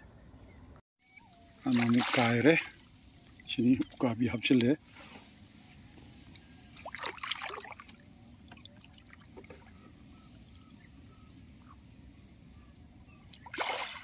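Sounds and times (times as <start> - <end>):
water trickling and splashing: 1.2 - 14.0.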